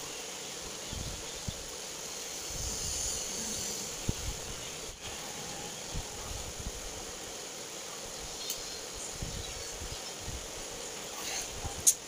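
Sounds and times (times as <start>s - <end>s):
faint hum: 0.0s - 12.0s
steady background hiss: 0.0s - 12.0s.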